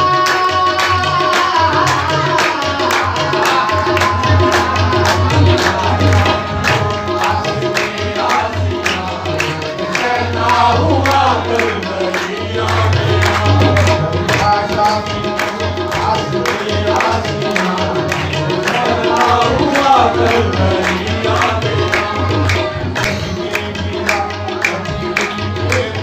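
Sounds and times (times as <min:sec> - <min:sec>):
hand claps: 0:00.0 - 0:26.0
harmonium held notes: 0:00.0 - 0:26.0
man singing into microphone: 0:00.0 - 0:26.0
tabla drums: 0:00.0 - 0:26.0.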